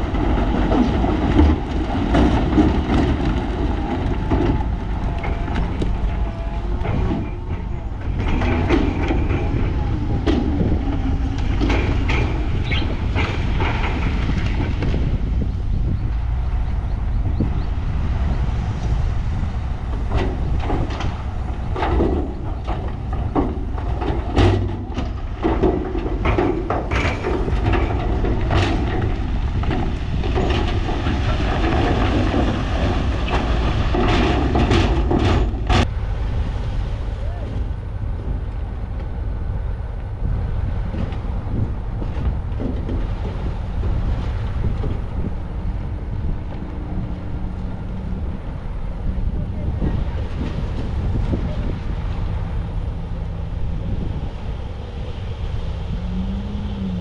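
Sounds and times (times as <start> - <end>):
metal tracks clanking on rock: 0.0 - 36.2, 39.9 - 54.9
heavy machinery diesel rumble: 0.0 - 57.0.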